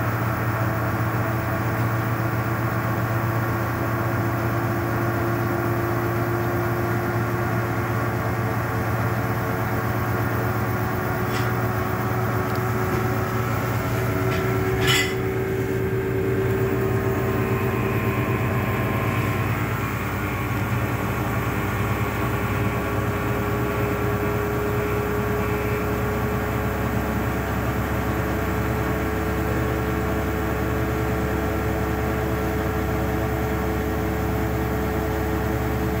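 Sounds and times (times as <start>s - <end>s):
washing machine spinning: 0.0s - 36.0s.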